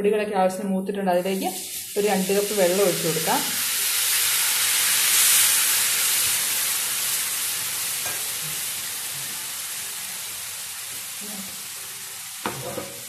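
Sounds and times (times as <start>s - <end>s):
water sizzling in hot oil: 1.2s - 13.0s.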